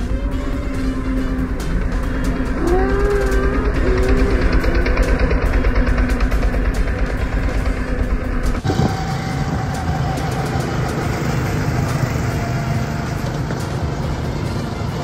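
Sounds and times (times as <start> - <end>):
go-kart engines droning: 0.0 - 15.0.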